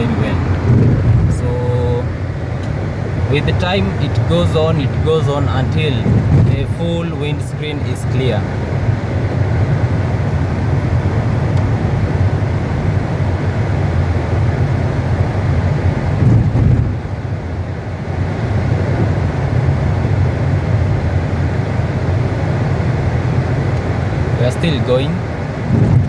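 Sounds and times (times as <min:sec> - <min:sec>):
car cabin rumble: 0:00.0 - 0:26.0.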